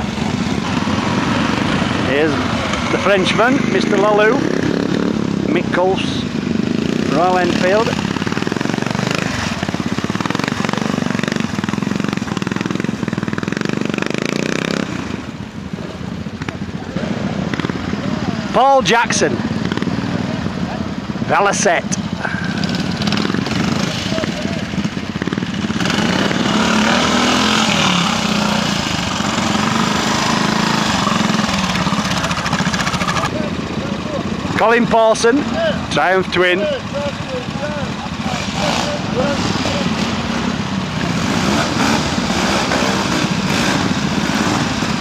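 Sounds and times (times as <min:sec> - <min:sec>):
motorcycle engine at low revs: 0:00.0 - 0:45.0.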